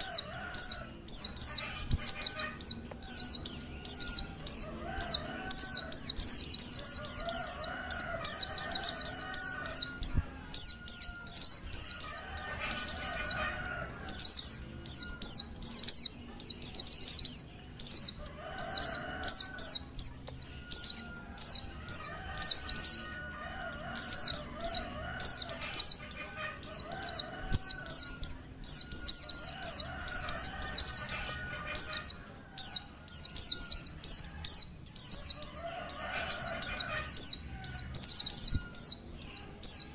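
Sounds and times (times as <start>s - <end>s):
fainter lower bird calls: 0.0s - 39.9s.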